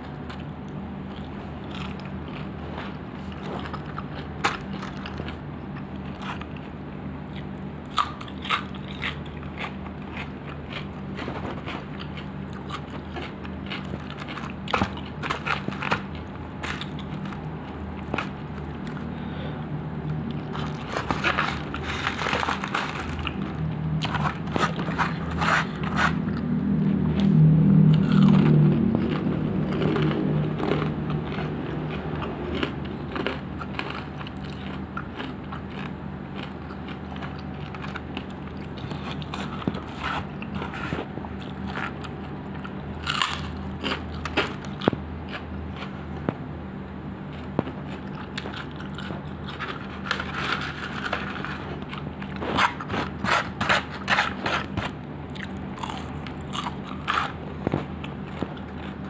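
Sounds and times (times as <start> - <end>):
chewing crunchy fried chicken: 0.0 - 46.5, 47.2 - 59.0.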